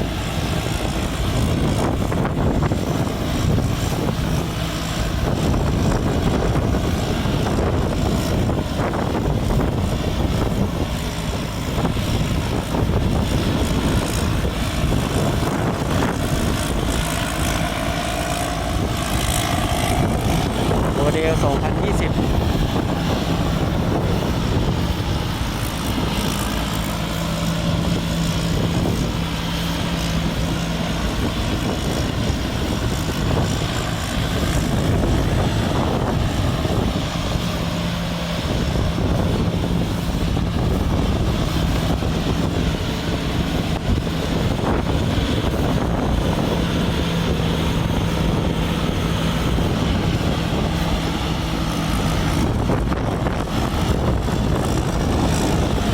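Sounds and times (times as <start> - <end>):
combine harvester drone: 0.0 - 55.9.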